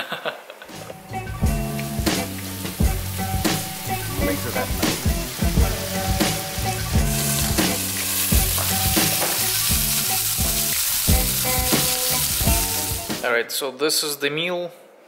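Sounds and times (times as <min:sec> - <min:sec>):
chicken wings sizzling in oil: 0:01.0 - 0:13.2.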